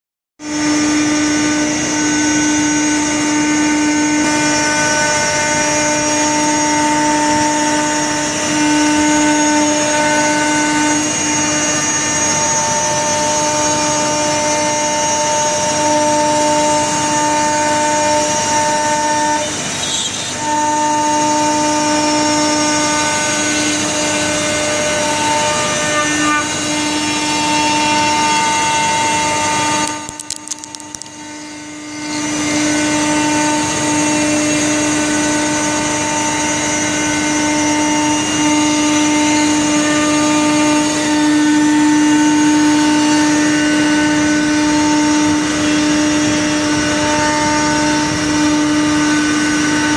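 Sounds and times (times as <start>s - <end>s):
router spindle whine cutting plastic: 0.4s - 49.9s
vacuum blowers running: 0.4s - 49.9s.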